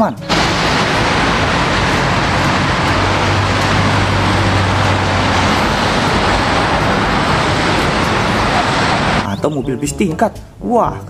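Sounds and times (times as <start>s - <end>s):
passing traffic noise: 0.0s - 10.6s
low hum: 0.2s - 10.6s.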